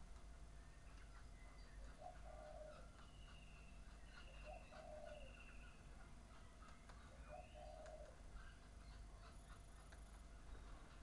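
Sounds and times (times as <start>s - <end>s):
low bird calls: 0.4s - 11.0s.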